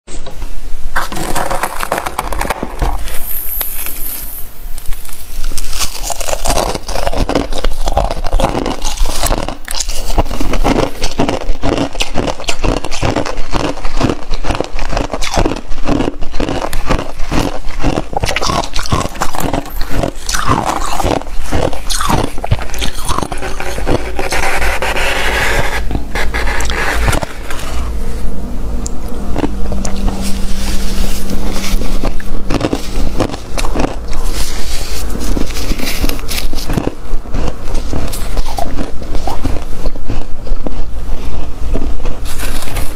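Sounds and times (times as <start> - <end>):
freezer frost being scraped: 1.0 - 27.9, 29.4 - 42.9.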